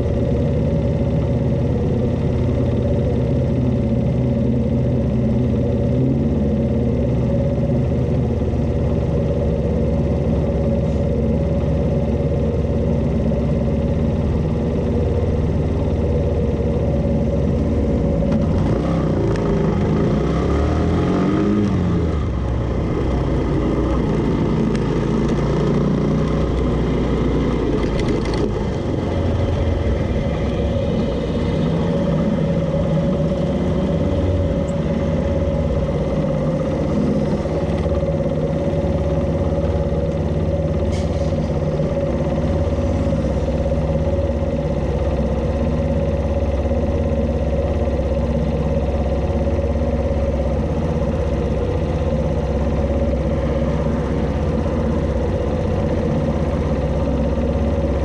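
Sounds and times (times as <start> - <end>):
motorcycle engine idling: 0.0 - 20.0, 21.8 - 58.0.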